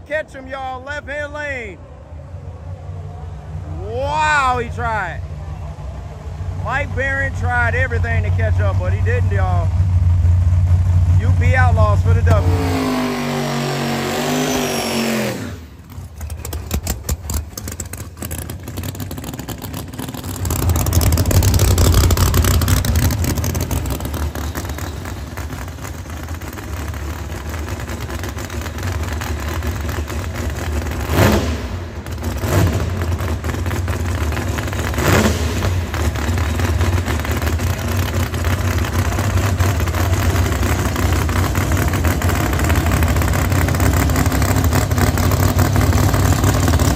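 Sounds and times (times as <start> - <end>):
engine throttle blips: 0.0 - 46.9
race car engine running rough: 0.0 - 46.9.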